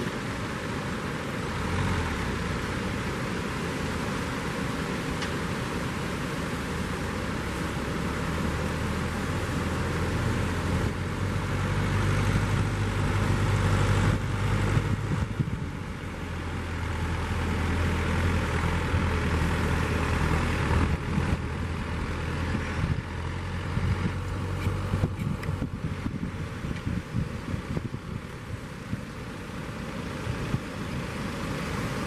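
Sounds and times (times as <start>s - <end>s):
engine running: 0.0s - 32.0s
surf: 0.0s - 32.0s
wind: 0.0s - 32.0s.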